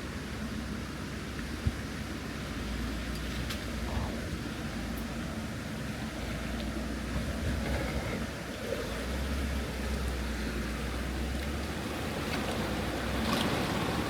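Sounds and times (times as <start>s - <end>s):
vehicle engine low rumble: 0.0s - 14.0s.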